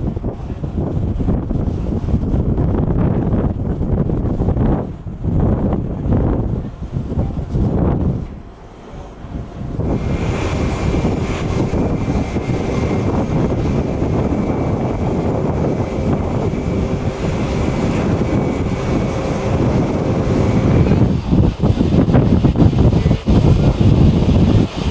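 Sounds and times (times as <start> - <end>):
jet engines running: 0.0 - 24.9.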